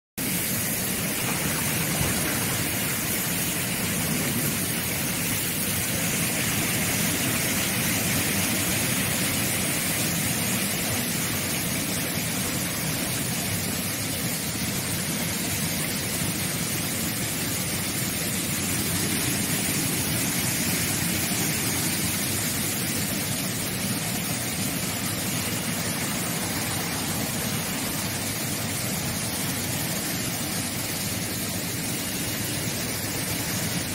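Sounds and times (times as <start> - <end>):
churning bubbling water: 0.2 - 33.9.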